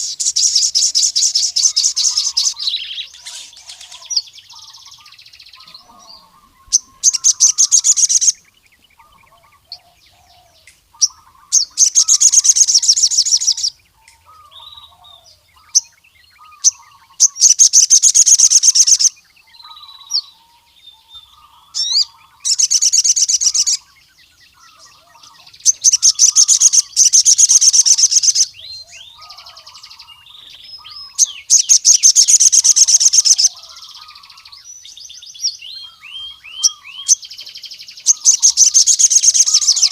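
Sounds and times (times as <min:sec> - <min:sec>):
bird singing fast high trills: 0:00.0 - 0:39.9
soft low bird twittering: 0:00.0 - 0:39.9.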